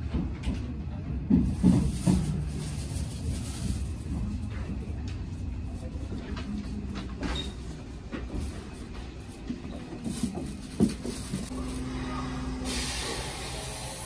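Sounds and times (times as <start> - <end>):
standing train rumble and hum: 0.0 - 14.0.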